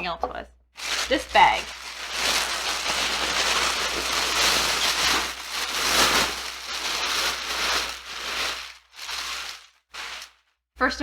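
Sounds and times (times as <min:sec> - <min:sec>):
plastic bag rustling: 0:00.8 - 0:10.4.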